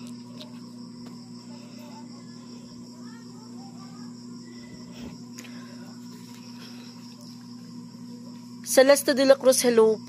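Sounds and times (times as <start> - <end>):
crickets chirping: 0.0 - 10.0
steady low hum: 0.0 - 10.0.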